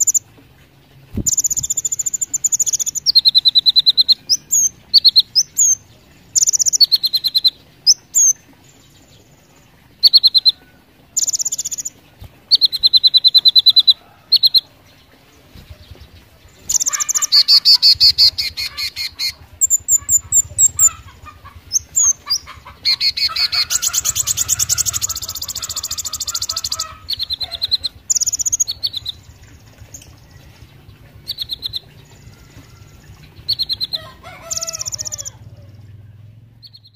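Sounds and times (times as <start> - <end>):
sunbird singing trilled notes: 1.1 - 14.6, 15.6 - 36.9.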